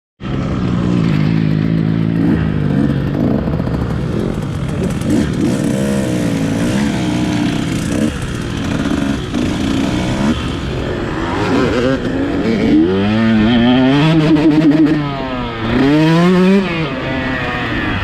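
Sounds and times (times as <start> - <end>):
motorcycle engine revving: 0.2 - 18.0.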